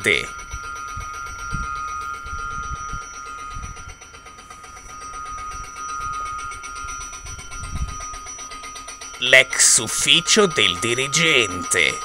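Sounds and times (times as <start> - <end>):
electric bell ringing: 0.0 - 12.0.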